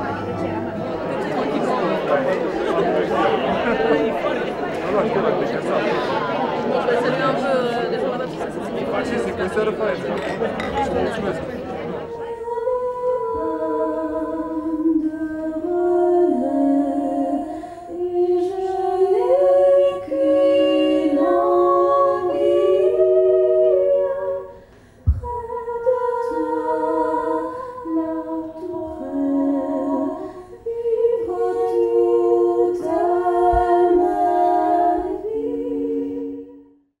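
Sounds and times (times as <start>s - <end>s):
voices singing in harmony: 0.0s - 36.9s.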